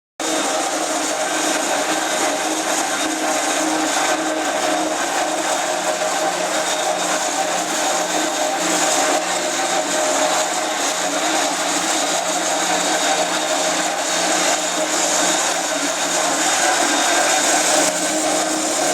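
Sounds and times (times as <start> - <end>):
concrete grinder grinding: 0.2 - 18.9.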